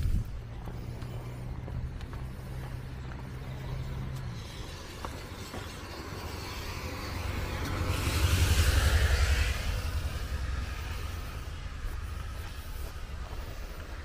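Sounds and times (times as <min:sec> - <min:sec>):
vehicle engine hum: 0:00.0 - 0:14.0
hiss: 0:02.2 - 0:14.0.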